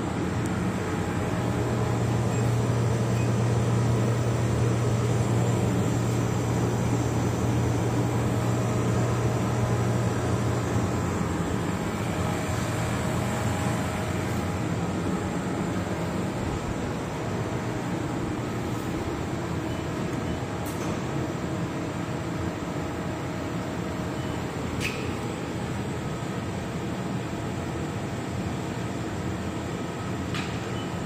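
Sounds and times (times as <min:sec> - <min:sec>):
welding machine hum and hiss: 0:00.0 - 0:31.0.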